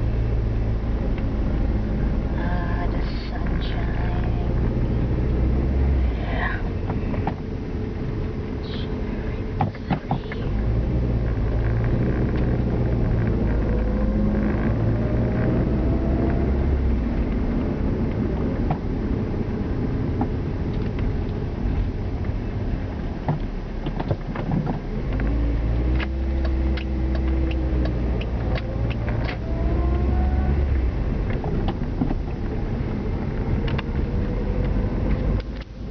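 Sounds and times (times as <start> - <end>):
vehicle engine rumbling: 0.0 - 35.9.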